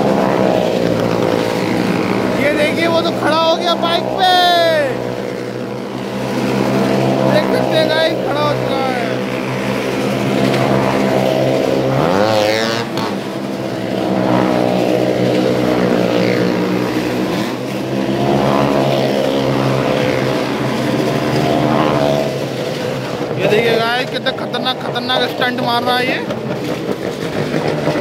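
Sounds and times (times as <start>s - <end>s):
motorcycle engine circling: 0.0s - 28.0s.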